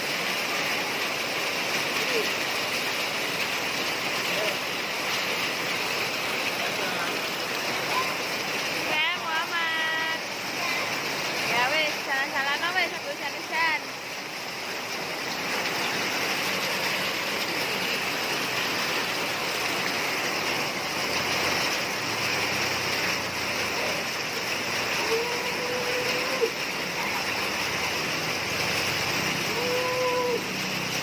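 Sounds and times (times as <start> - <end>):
rain falling steadily: 0.0 - 31.0.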